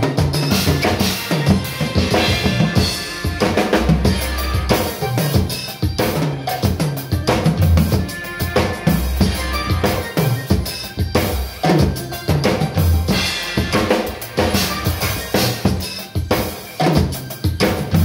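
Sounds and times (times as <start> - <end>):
drum kit playing: 0.0 - 18.0
recorded song with bass line: 0.0 - 18.0.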